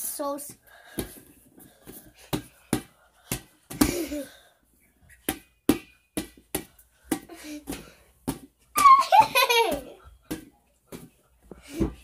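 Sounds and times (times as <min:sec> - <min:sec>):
ball bouncing with dull thuds: 0:00.4 - 0:04.2, 0:05.1 - 0:12.0.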